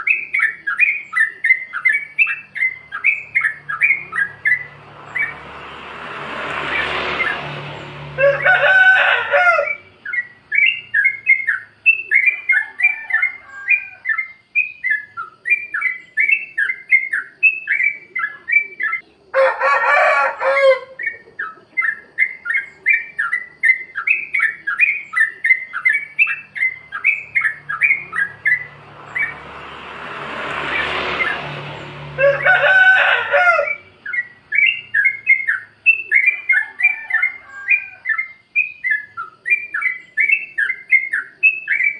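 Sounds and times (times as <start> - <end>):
bulbul singing chattering song: 0.0 - 8.4, 9.6 - 19.3, 20.8 - 32.4, 33.5 - 41.9.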